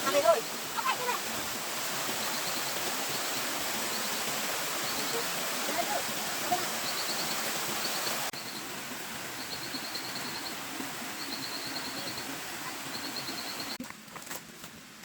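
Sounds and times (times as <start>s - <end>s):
rain falling on forest: 0.0s - 15.0s.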